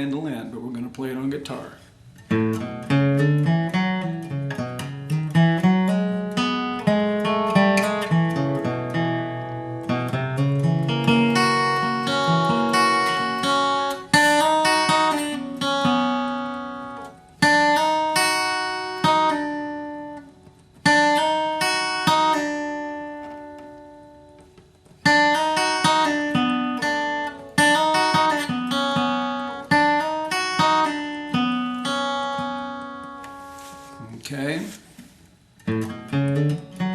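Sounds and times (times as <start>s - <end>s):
acoustic guitar picking melody: 0.0s - 36.9s.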